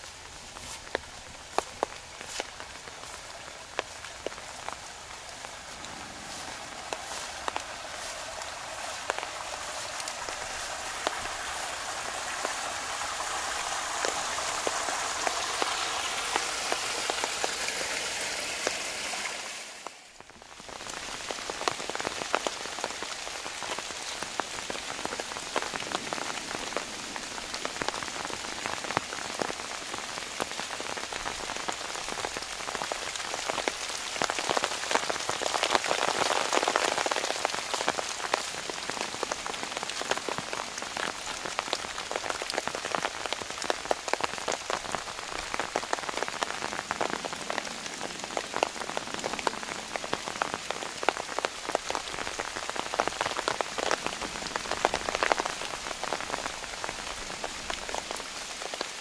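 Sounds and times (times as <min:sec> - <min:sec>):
rain on leaves and ground: 0:00.0 - 0:59.0.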